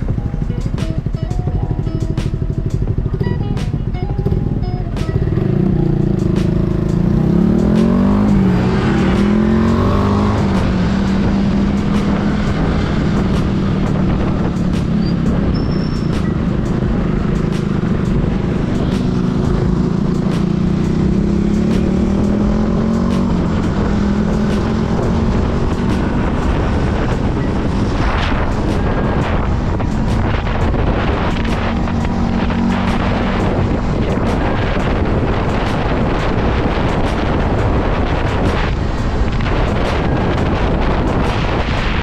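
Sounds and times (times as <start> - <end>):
motorcycle engine running: 0.0 - 42.0
wind rushing over microphone: 0.0 - 42.0.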